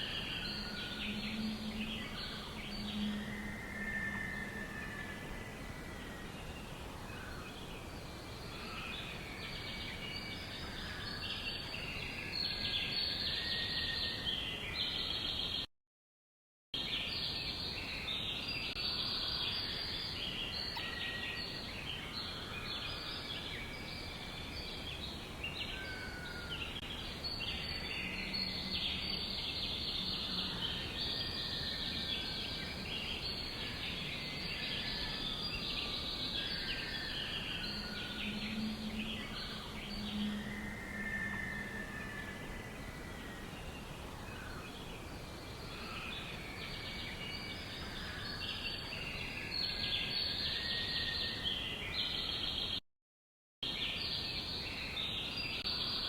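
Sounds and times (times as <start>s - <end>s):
small birds chirping chorus: 0.0s - 15.7s, 16.8s - 52.8s, 53.6s - 56.0s.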